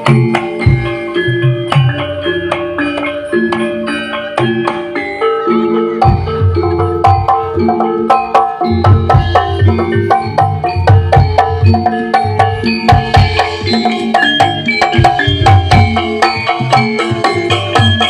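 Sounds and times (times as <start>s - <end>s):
metallophone notes: 0.0s - 18.0s.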